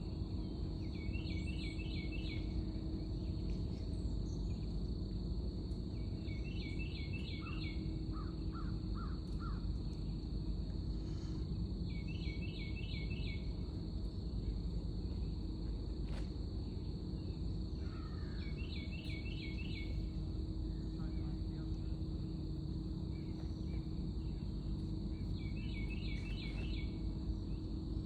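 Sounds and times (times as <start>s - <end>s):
insects droning: 0.0s - 28.0s
low rumbling background noise: 0.0s - 28.0s.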